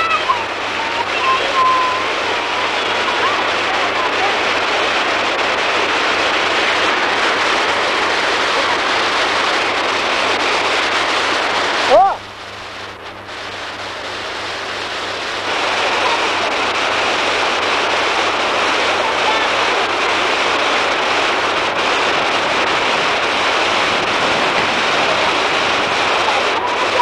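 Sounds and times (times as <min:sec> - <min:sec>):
river water rushing over rocks: 0:00.0 - 0:12.2, 0:12.8 - 0:27.0.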